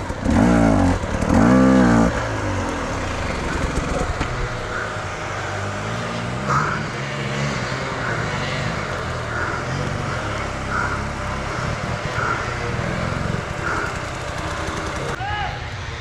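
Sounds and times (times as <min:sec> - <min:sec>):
dirt bike engine revving: 0:00.0 - 0:15.2.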